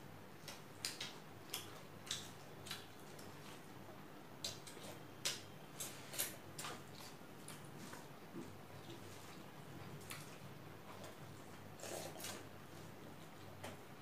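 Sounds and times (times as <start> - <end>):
wet chewing clicks and smacks: 0.4 - 3.6, 4.4 - 12.5.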